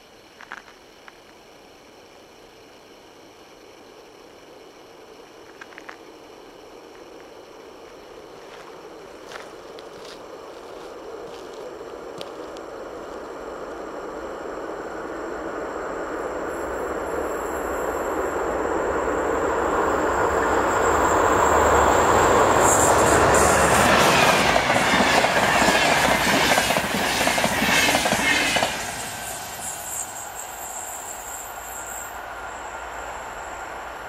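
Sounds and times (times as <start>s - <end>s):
train passing at speed: 0.9s - 34.0s.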